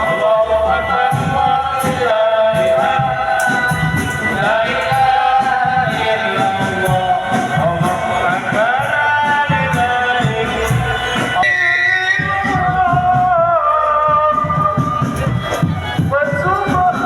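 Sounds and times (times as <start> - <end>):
loud music with singing voice: 0.0 - 17.0
regular drum beats: 0.0 - 17.0.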